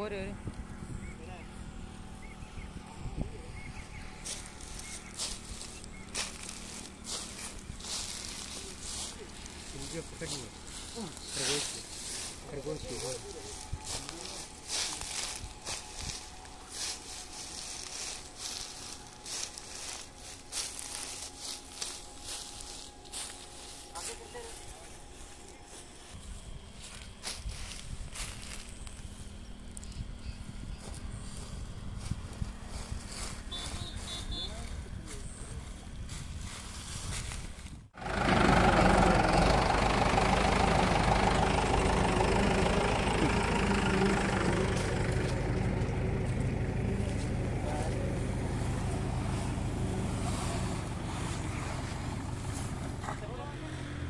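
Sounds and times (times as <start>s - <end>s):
heavy vehicle engine running: 0.0s - 36.6s, 37.8s - 54.0s
low steady rumble: 0.0s - 54.0s
dry stalks rustling and crackling: 3.8s - 53.5s.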